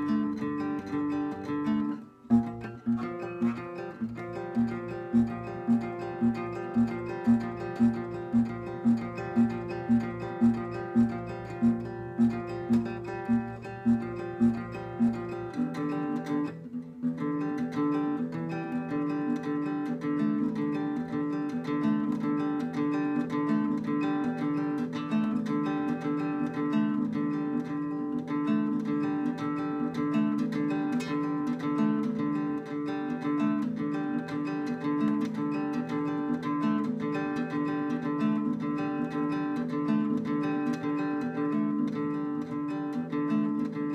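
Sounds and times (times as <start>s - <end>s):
fingerpicked acoustic guitar: 0.0s - 43.9s.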